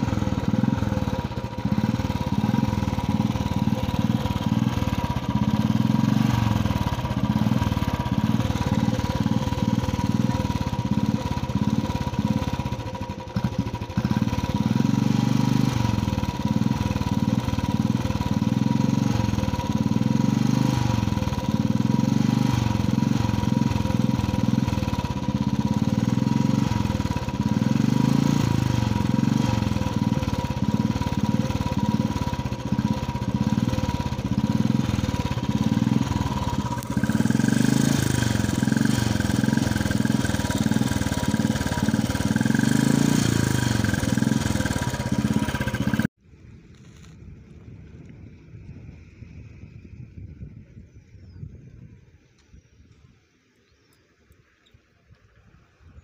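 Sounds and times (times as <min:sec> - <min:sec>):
motorcycle engine revving: 0:00.0 - 0:46.2.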